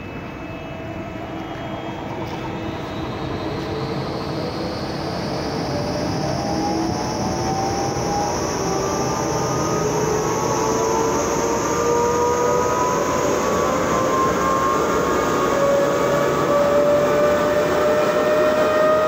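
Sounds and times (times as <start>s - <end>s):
blower running with whine: 0.0s - 19.0s.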